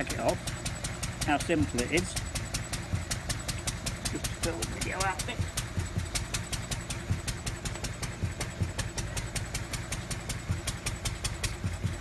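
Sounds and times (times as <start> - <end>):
stationary engine idling: 0.0 - 12.0.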